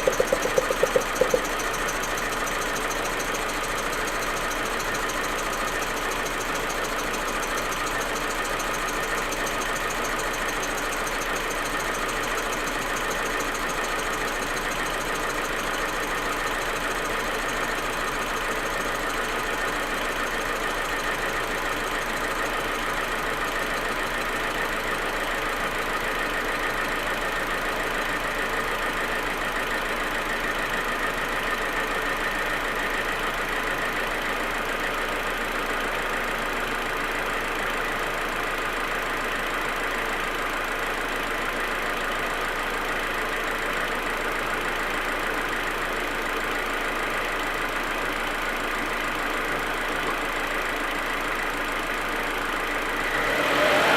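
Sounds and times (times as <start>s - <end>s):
rough stuttering car engine idle: 0.0s - 53.9s.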